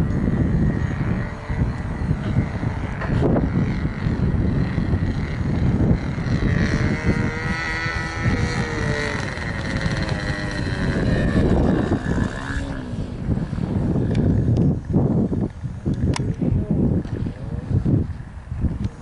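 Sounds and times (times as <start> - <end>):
model airplane motor drone: 0.0 - 19.0
wind buffeting microphone: 0.0 - 19.0.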